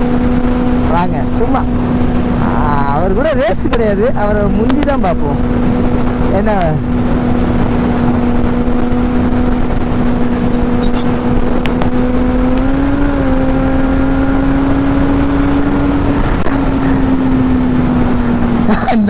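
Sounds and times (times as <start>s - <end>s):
motorcycle engine cruising: 0.0s - 19.0s
wind rush on microphone: 0.0s - 19.0s.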